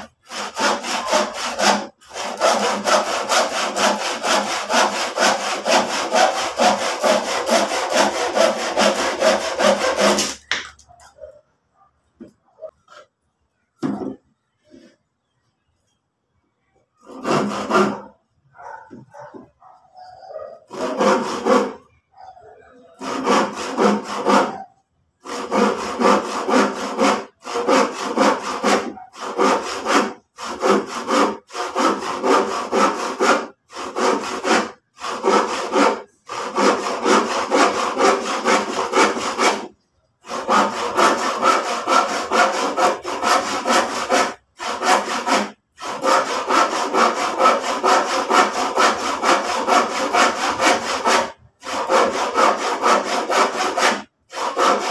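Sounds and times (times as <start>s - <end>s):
hand saw cutting wood: 0.0s - 10.8s, 17.0s - 18.2s, 20.2s - 21.9s, 23.0s - 54.9s.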